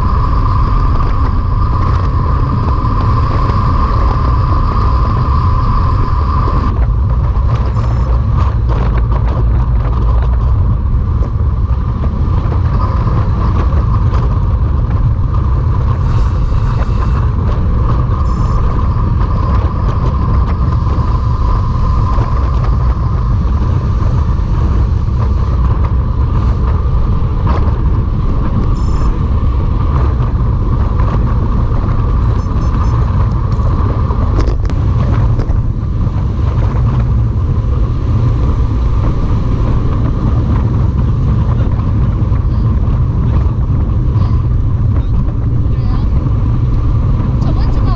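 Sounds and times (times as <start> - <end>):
mid-pitched hum: 0.0 - 47.9
wind rumble on microphone: 0.0 - 47.9.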